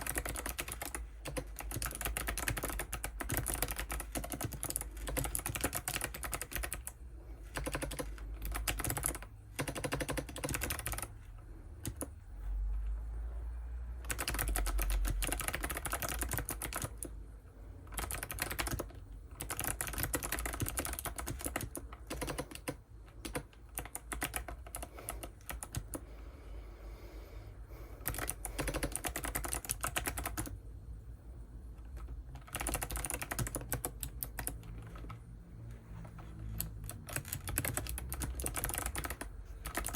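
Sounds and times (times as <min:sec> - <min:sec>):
mechanical keyboard typing: 0:00.0 - 0:12.1, 0:14.0 - 0:17.2, 0:17.8 - 0:26.0, 0:28.0 - 0:30.6, 0:31.8 - 0:35.2, 0:36.0 - 0:39.9.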